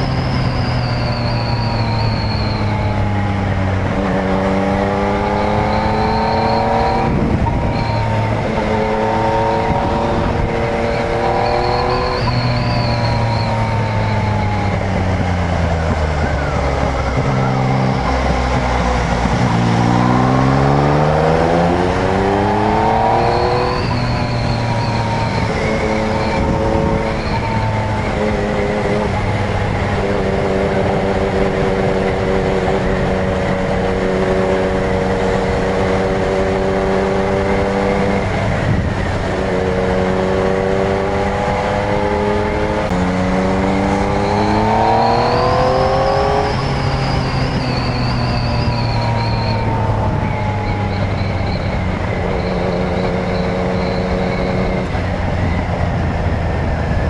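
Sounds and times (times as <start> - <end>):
motorcycle engine revving: 0.0 - 57.0
wet road noise: 0.0 - 57.0
wind noise: 0.0 - 57.0.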